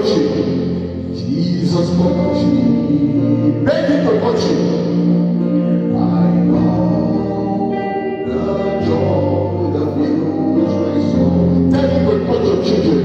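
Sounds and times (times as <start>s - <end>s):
choir singing: 0.0s - 13.0s
instrumental backing with bass: 0.0s - 13.0s.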